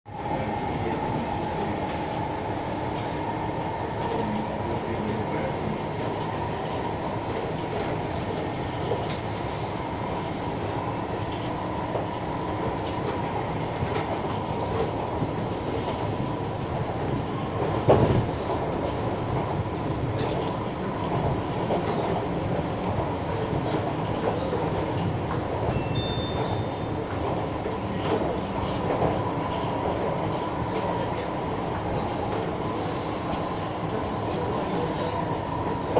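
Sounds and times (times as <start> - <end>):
train wheels rumbling on rail: 0.1 - 35.9.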